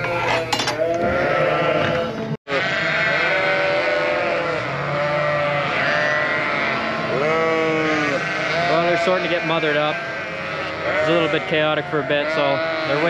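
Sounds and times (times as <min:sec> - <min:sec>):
sheep and lambs bleating: 0:00.0 - 0:13.0.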